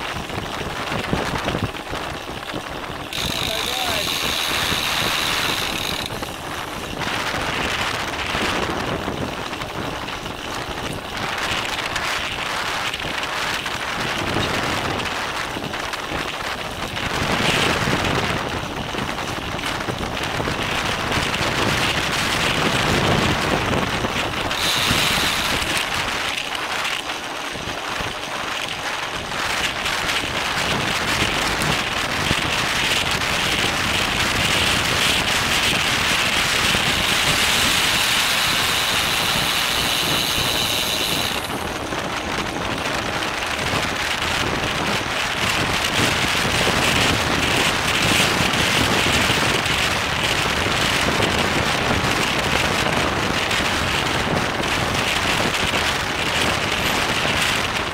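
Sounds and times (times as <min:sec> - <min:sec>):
bicycle tyre and road noise: 0:00.0 - 0:57.9
wind rushing over microphone: 0:00.0 - 0:57.9.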